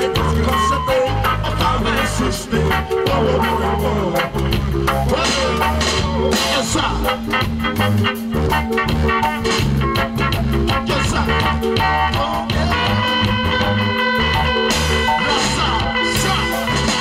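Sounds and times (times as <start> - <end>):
live band with electric guitar: 0.0 - 17.0.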